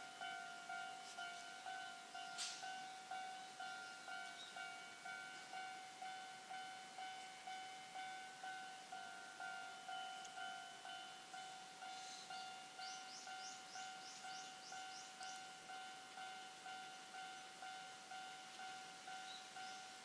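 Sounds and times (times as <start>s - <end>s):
level crossing alarm bell: 0.0s - 20.0s.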